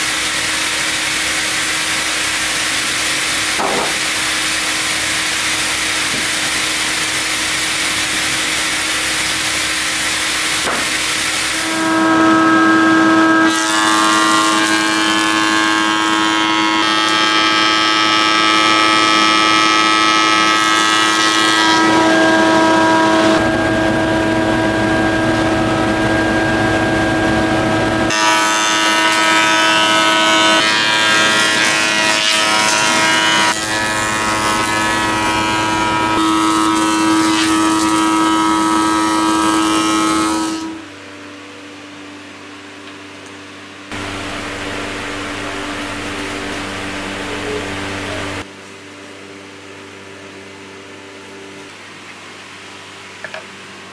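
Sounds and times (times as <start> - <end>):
sawmill saw cutting log: 0.0 - 40.8, 43.9 - 48.4
thickness planer whine: 0.0 - 42.7, 43.9 - 51.6.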